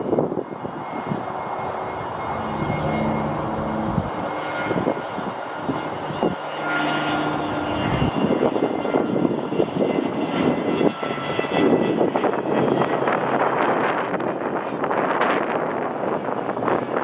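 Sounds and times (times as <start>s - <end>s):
jet engines roaring and whining: 0.0s - 17.0s
wind buffeting microphone: 0.0s - 17.0s.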